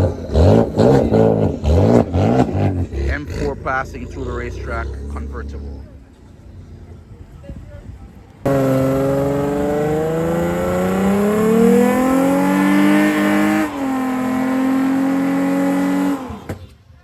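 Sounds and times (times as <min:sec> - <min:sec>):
car engine accelerating hard: 0:00.0 - 0:06.0, 0:08.4 - 0:16.7.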